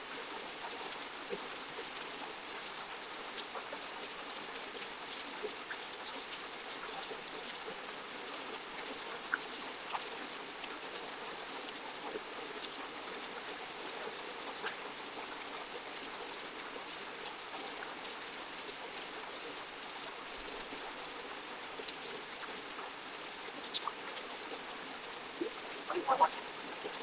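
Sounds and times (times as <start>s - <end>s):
stream water rushing: 0.0s - 27.0s
faint ticks: 0.1s - 27.0s.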